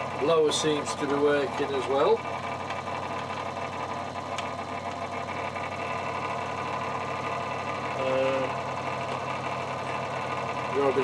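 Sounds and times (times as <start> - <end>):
scroll saw humming: 0.0 - 11.0.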